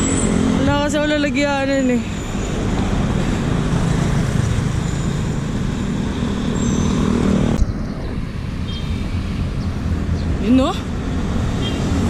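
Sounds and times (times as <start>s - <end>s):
road traffic noise: 0.0s - 12.0s
vehicle engine hum: 0.0s - 12.0s.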